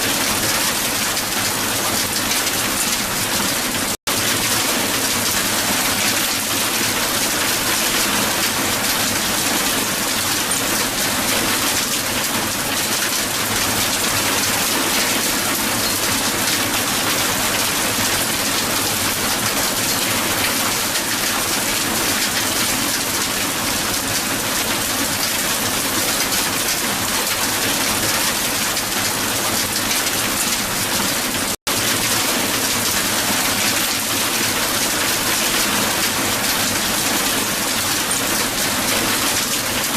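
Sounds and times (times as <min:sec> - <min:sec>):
hail falling on ground: 0:00.0 - 0:39.9.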